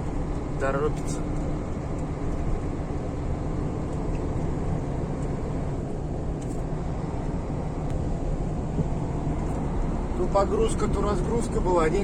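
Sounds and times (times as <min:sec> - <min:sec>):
road rumble: 0:00.0 - 0:12.0
truck engine drone: 0:00.0 - 0:12.0.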